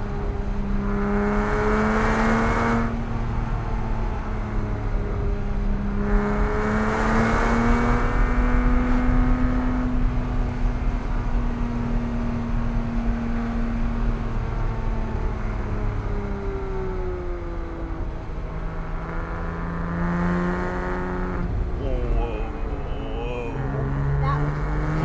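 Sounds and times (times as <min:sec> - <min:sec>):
car engine accelerating: 0:00.0 - 0:25.0
road and tyre rumble: 0:00.0 - 0:25.0.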